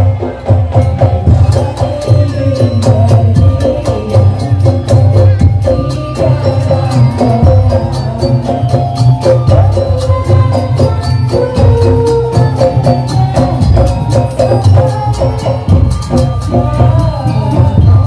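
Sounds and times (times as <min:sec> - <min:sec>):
deep drums beating: 0:00.0 - 0:18.0
jingling cymbal strokes: 0:00.0 - 0:18.0.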